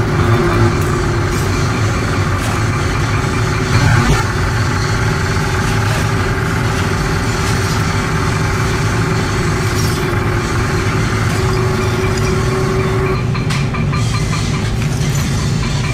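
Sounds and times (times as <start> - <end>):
machinery drone: 0.0 - 15.9.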